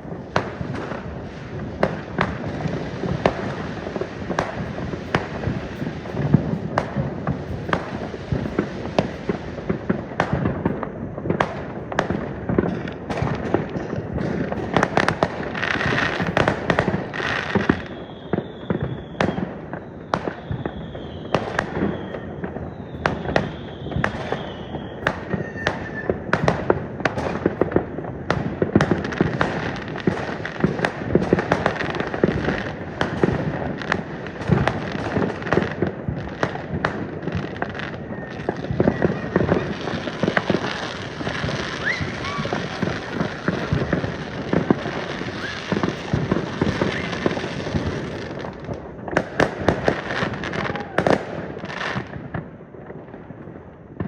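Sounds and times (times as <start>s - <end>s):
fireworks bangs and crackling: 0.0s - 54.0s
whistling fireworks: 0.0s - 54.0s.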